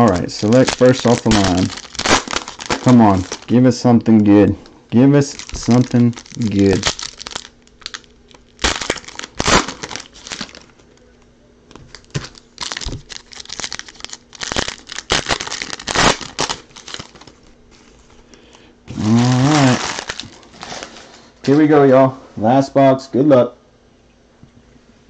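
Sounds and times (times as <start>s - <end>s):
foil wrapper crinkling and tearing: 0.0s - 4.1s, 5.0s - 11.0s, 11.7s - 21.6s.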